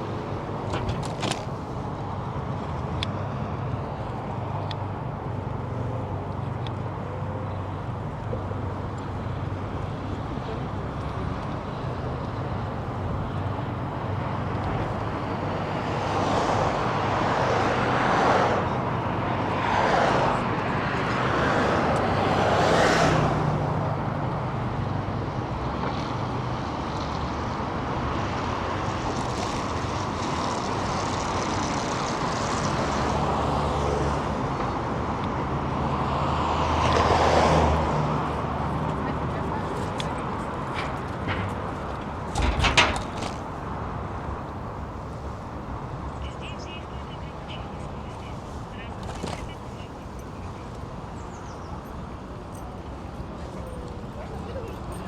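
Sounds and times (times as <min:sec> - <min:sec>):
cars passing: 0:00.0 - 0:55.0
low hum of engines and road noise: 0:00.0 - 0:55.0.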